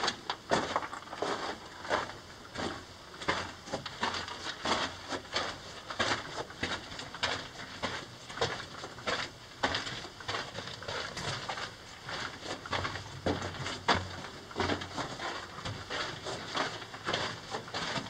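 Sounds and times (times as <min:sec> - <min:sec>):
footsteps on gravel: 0:00.0 - 0:18.0.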